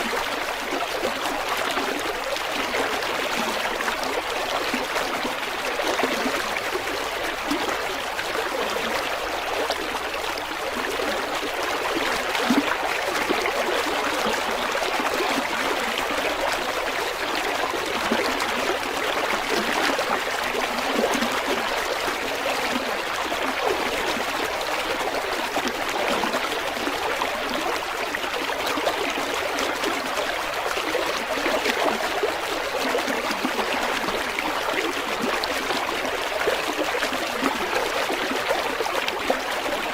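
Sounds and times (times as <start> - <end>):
river water babbling over stones: 0.0 - 39.9.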